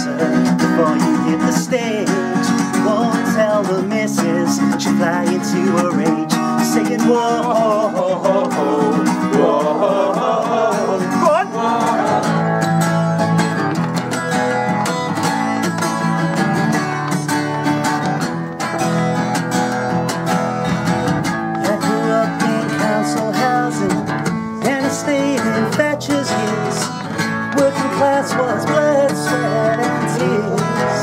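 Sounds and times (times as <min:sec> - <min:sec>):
acoustic guitar strumming chords: 0:00.0 - 0:31.0.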